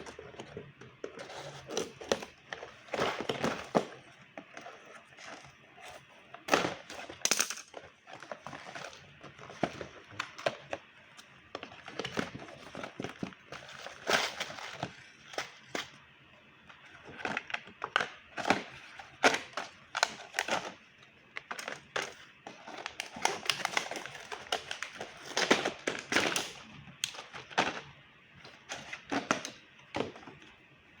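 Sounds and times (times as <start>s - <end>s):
packaging crinkling and rustling: 0.0s - 16.0s, 16.7s - 30.6s.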